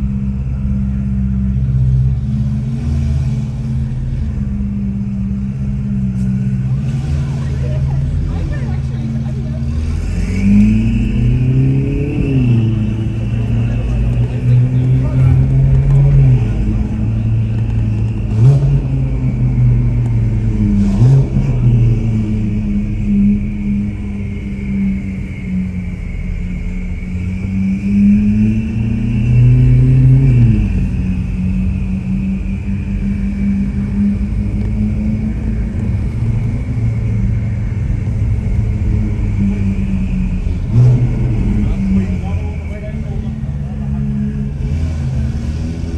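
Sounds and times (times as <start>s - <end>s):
sports car engine revving: 0.0s - 45.9s.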